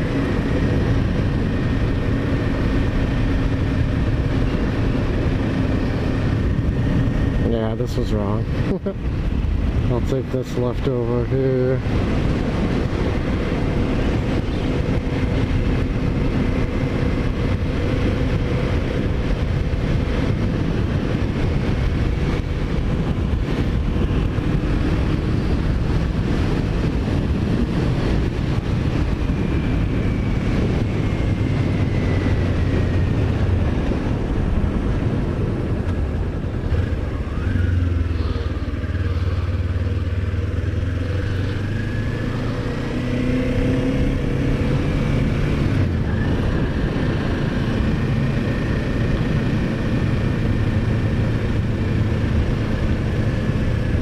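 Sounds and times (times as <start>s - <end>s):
motorcycle engine running: 0.0s - 54.0s
rush of riding noise: 0.0s - 54.0s.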